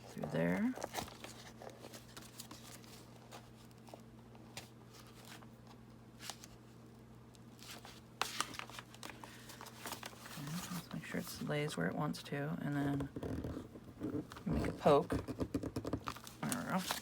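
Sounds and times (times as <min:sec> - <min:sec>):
paper rustling and crinkling: 0:00.0 - 0:06.8, 0:07.5 - 0:11.5, 0:13.2 - 0:17.0.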